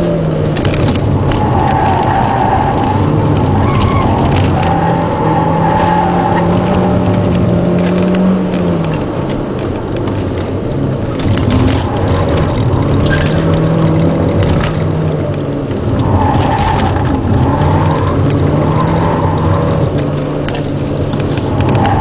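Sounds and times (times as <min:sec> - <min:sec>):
car engine pulling hard: 0:00.0 - 0:22.0
road and wind noise: 0:00.0 - 0:22.0.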